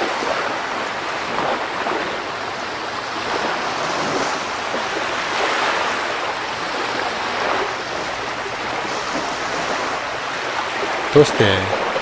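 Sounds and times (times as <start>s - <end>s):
sea waves washing onto shore: 0.0s - 12.0s.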